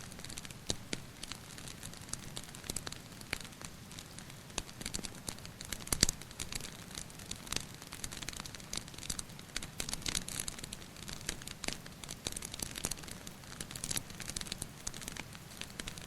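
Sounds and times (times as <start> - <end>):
soft hiss of rain: 0.0 - 16.0
wood fire crackling and popping: 0.0 - 16.0.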